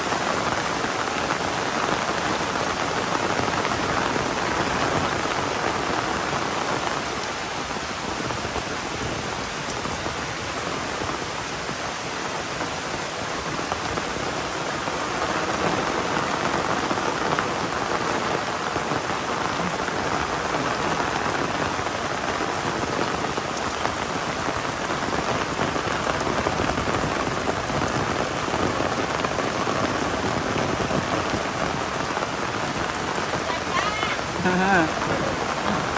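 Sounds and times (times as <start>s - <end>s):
heavy rain pouring: 0.0s - 35.9s.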